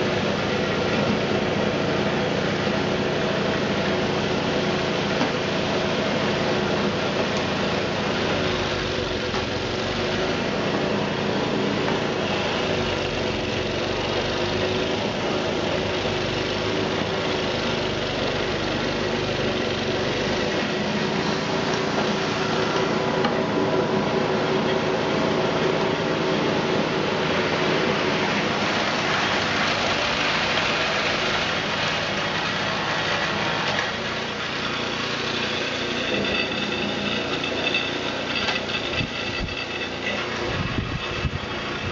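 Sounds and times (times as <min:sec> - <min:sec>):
snowblower engine running under load: 0:00.0 - 0:41.9.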